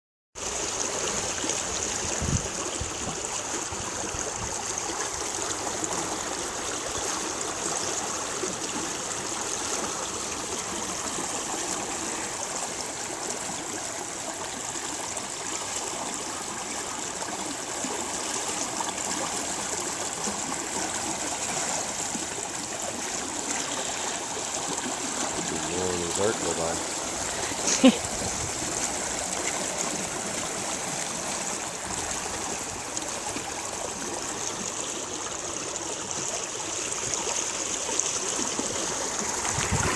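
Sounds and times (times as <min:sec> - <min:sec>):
floodwater rushing: 0:00.4 - 0:39.9.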